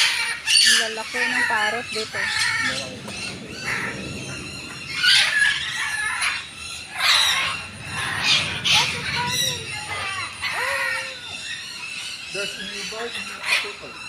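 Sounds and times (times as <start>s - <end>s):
parrots screeching squawks: 0.0s - 14.0s.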